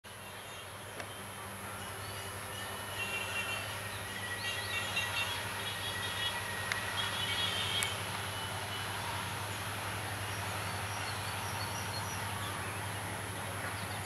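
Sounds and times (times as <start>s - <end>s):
diesel locomotive engine hum: 0.1s - 14.0s
birds chirping: 0.2s - 14.0s.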